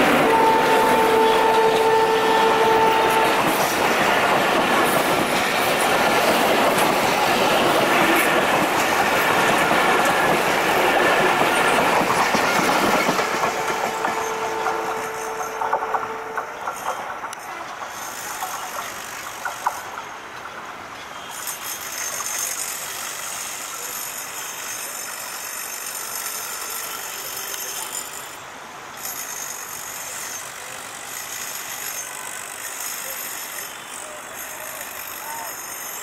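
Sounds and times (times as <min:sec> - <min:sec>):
train clacking over rail joints: 0:00.0 - 0:36.0
train running: 0:00.0 - 0:36.0.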